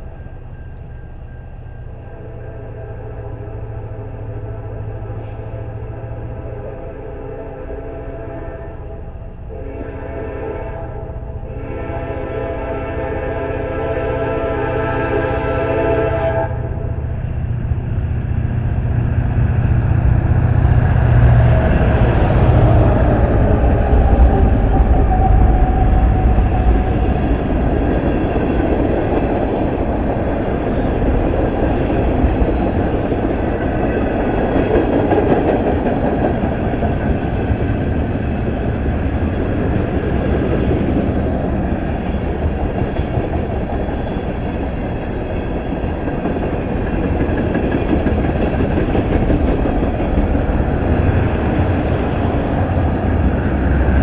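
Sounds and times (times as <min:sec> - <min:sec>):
diesel locomotives rumbling: 0:00.0 - 0:54.0
train wheels on rails: 0:00.0 - 0:54.0.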